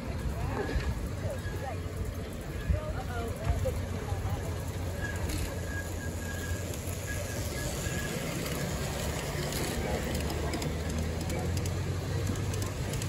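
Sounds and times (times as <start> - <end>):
model train wheels rumbling on track: 0.0 - 13.0.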